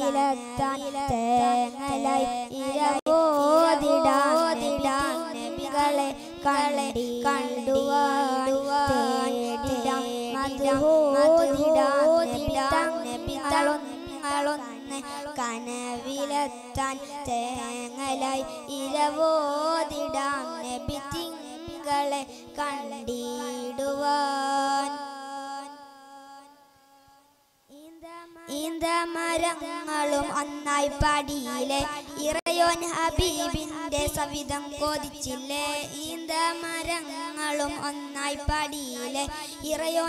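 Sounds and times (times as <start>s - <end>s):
boy singing through pa: 0.0s - 40.0s.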